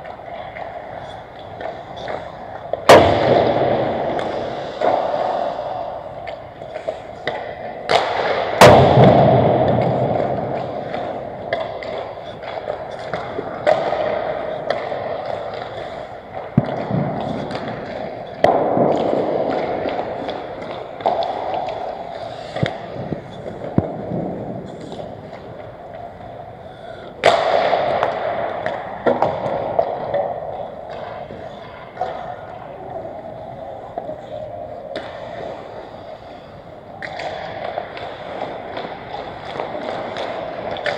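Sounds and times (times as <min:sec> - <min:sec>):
pucks and sticks banging boards: 0:00.0 - 0:26.4, 0:27.0 - 0:40.9.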